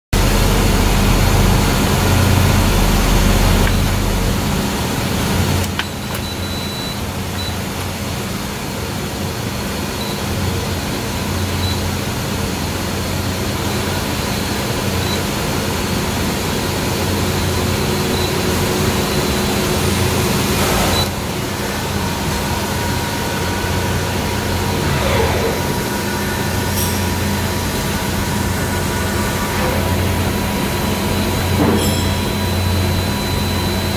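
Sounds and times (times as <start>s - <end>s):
copier humming: 0.2s - 33.9s.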